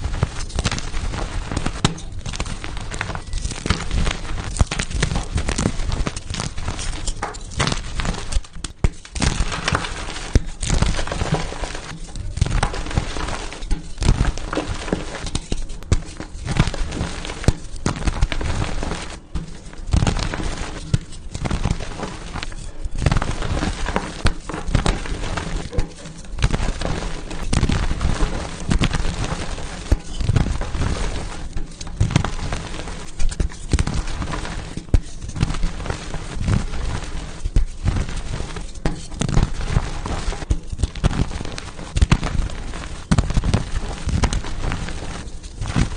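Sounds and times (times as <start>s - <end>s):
chalk being crushed and crumbled: 0.0s - 45.9s.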